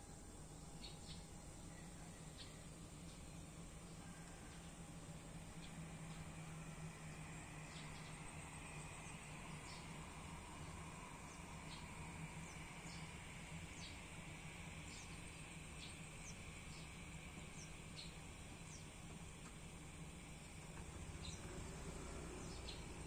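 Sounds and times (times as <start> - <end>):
low hum and hiss: 0.0 - 23.0.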